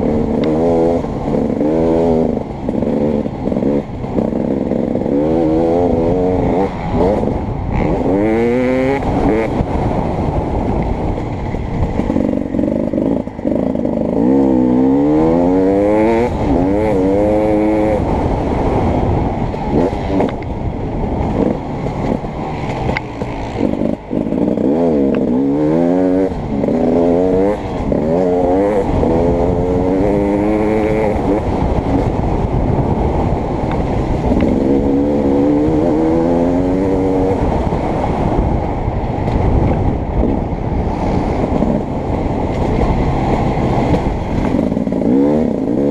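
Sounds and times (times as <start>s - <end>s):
dirt bike engine revving: 0.0s - 10.4s, 11.9s - 20.4s, 21.0s - 38.4s, 40.2s - 45.9s.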